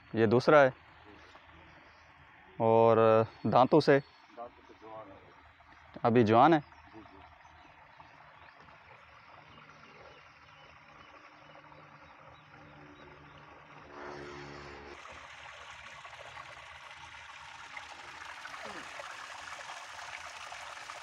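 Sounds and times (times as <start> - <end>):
water trickling into trough: 0.0 - 21.0.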